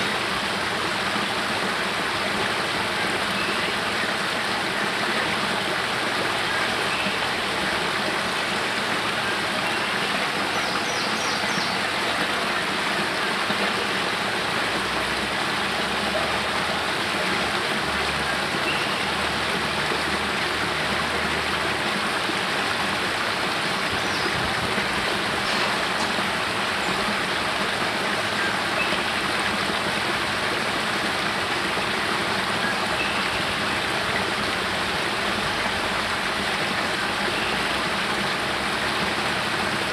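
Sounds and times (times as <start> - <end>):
water splashing down a cascade: 0.0 - 39.9.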